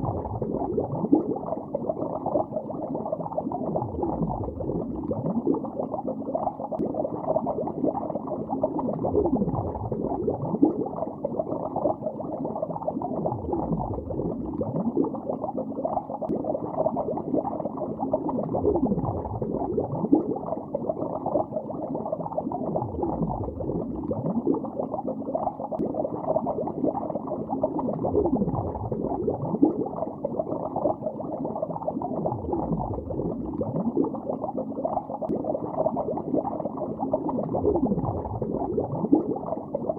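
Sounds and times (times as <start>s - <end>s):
bubbling and gurgling underwater: 0.0s - 39.9s.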